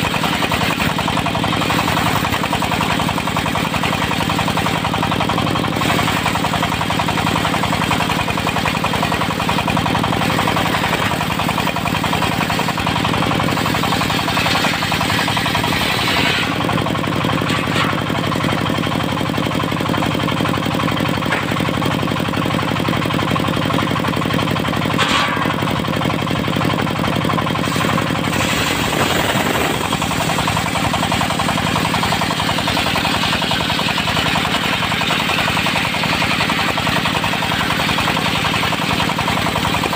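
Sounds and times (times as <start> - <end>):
circular saw running: 0.0 - 39.9
diesel engine knocking: 0.0 - 39.9.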